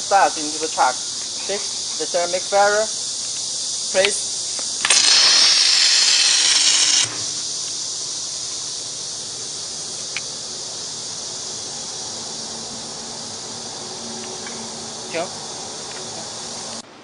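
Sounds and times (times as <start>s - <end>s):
welding arc sizzling: 0.0s - 16.8s
steady high-pitched hiss: 0.0s - 17.0s.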